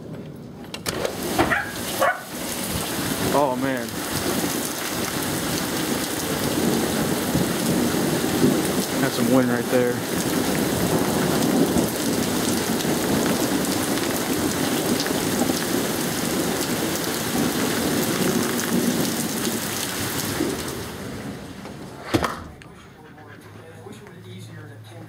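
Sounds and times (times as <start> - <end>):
heavy rain pelting down: 0.0 - 25.0.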